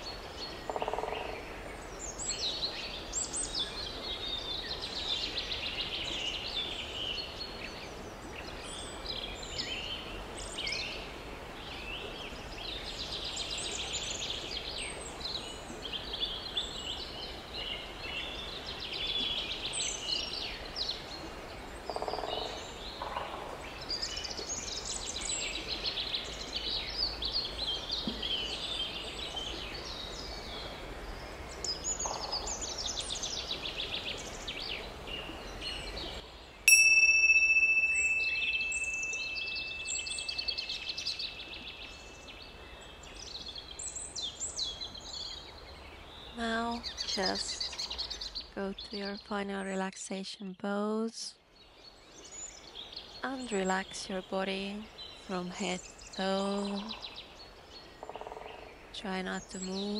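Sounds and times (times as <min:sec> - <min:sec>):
low background hiss: 0:00.0 - 0:59.9
songbirds singing: 0:00.0 - 0:59.9.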